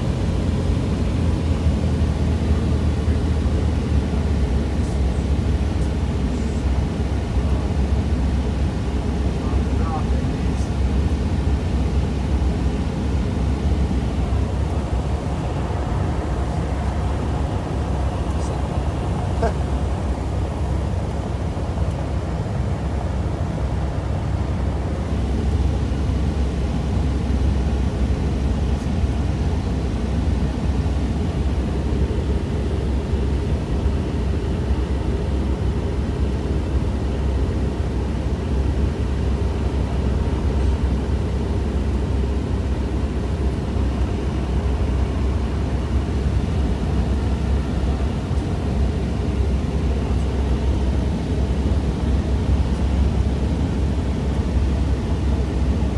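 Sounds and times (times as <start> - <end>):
airplane engine drone in cabin: 0.0 - 55.9.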